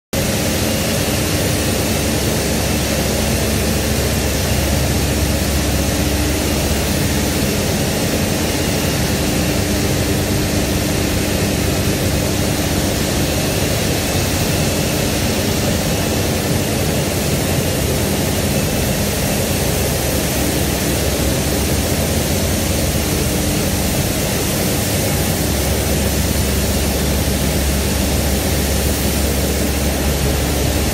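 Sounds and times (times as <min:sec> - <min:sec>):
machinery and air blowers roaring: 0:00.2 - 0:30.9
low hum: 0:00.3 - 0:30.9.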